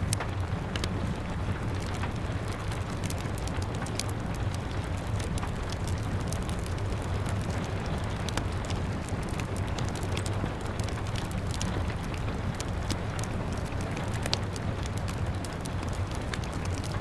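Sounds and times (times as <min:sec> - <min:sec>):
rain pattering on window glass: 0:00.0 - 0:17.0
wood fire crackling: 0:00.0 - 0:17.0.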